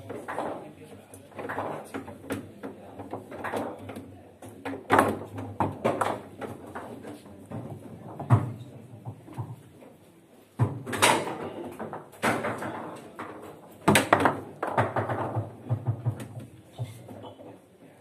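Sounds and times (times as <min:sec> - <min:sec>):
foosball table knocking and clacking: 0:00.0 - 0:09.6, 0:10.6 - 0:17.2.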